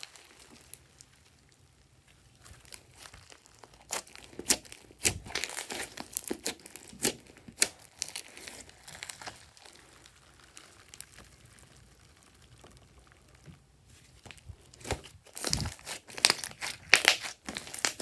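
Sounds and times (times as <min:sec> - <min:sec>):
slime crackling and squelching: 0:00.0 - 0:18.0.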